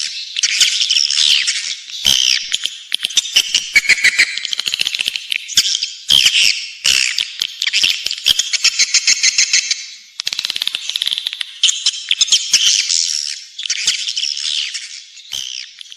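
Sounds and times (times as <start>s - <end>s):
high twittering bird chirps: 0.0s - 15.9s.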